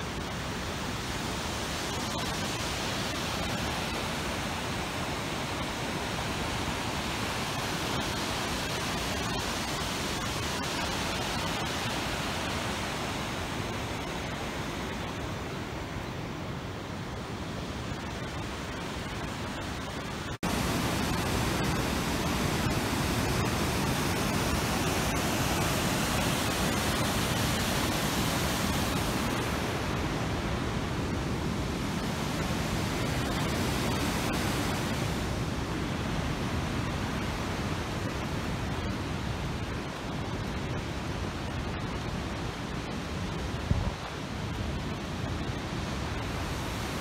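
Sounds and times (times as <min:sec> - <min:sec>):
fast-flowing water rushing: 0:00.0 - 0:47.0.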